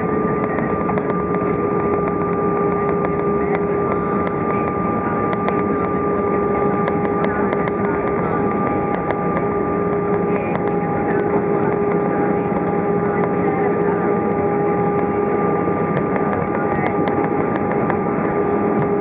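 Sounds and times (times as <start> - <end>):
airliner engine hum and whine: 0.0 - 19.0.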